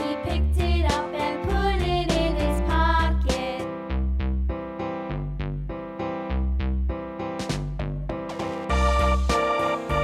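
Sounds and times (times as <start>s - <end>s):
lively instrumental music: 0.0s - 10.0s.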